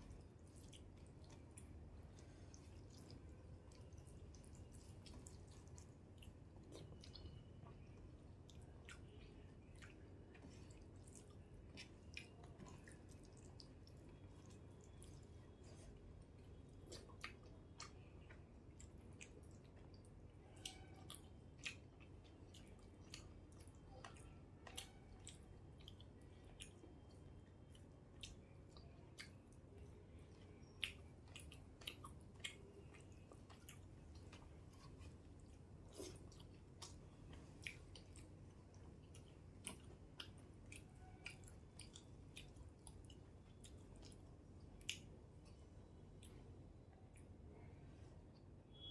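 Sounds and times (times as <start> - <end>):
person chewing food: 0.0 - 47.7.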